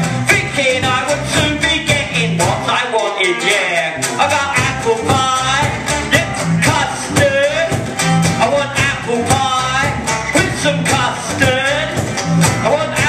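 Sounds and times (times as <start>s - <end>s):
live music with steady beat: 0.0s - 13.0s.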